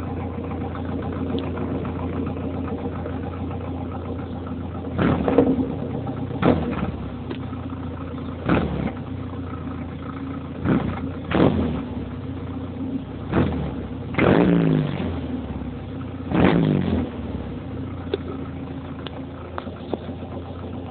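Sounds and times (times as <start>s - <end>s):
pickup engine idling and revving: 0.0s - 20.9s.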